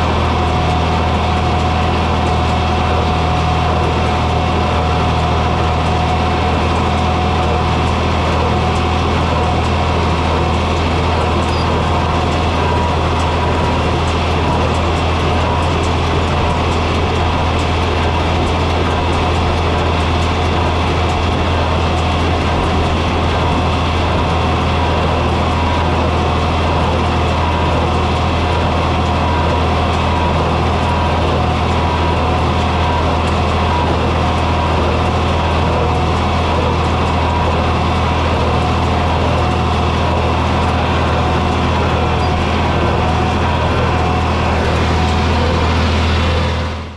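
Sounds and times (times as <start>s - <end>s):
tractor engine droning: 0.0s - 46.9s.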